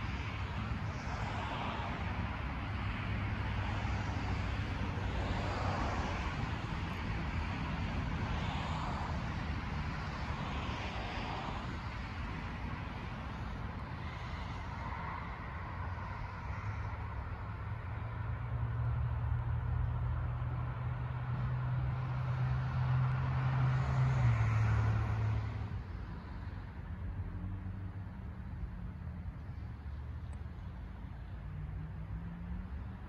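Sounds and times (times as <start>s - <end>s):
car rumbling slowly: 0.0s - 33.0s.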